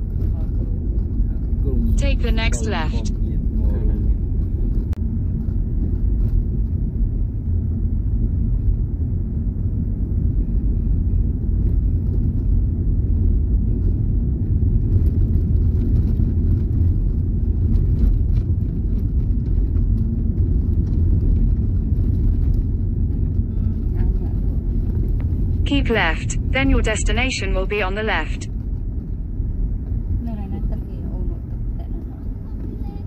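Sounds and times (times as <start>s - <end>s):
car engine and tyres rumbling: 0.0s - 26.5s, 28.5s - 33.0s.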